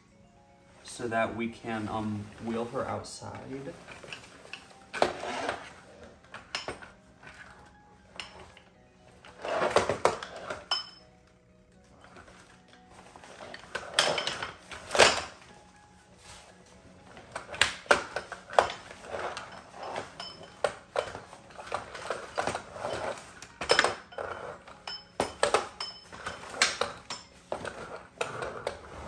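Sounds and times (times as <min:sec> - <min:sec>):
fabric rustling: 0:00.7 - 0:10.7, 0:11.8 - 0:29.0.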